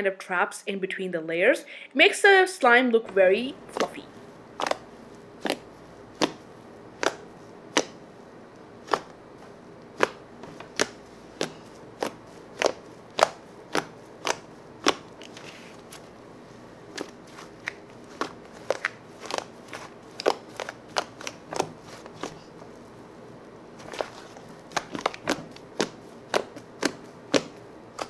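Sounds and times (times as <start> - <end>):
slime being kneaded by hand: 3.4 - 23.1, 23.7 - 28.0.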